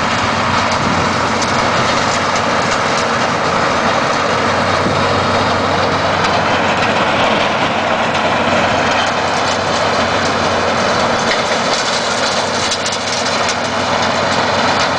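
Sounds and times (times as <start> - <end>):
diesel tractor engine running: 0.0 - 14.9
snowblower rushing noise: 0.0 - 14.9.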